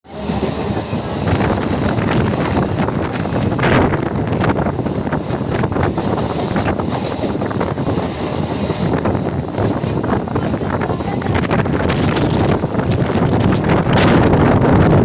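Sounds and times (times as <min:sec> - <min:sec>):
train rushing noise: 0:00.0 - 0:15.0
wind buffeting microphone: 0:00.1 - 0:15.0.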